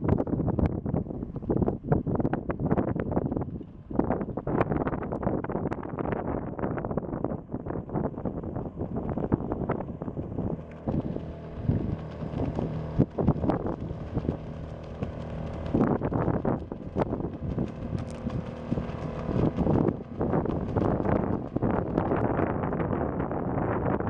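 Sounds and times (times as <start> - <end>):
wind buffeting microphone: 0.0 - 24.0
outboard motor running: 0.1 - 24.0.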